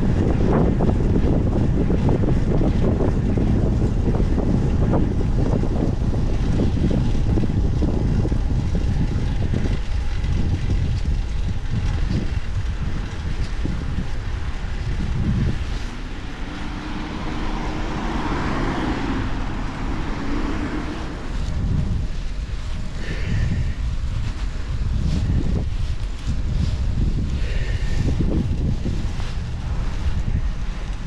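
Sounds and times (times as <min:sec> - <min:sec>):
motor vehicle hum passing: 0:00.0 - 0:31.0
wind buffeting microphone: 0:00.0 - 0:31.0.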